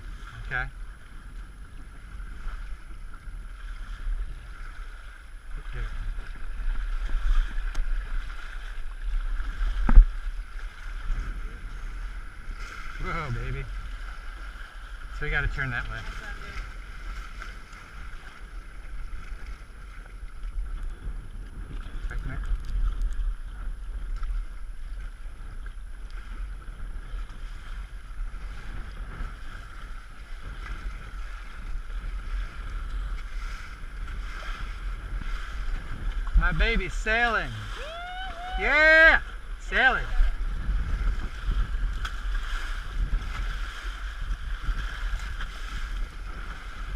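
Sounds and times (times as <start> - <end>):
wind rumbling on microphone: 0.0 - 46.9
water rushing: 2.0 - 20.7, 21.8 - 46.9.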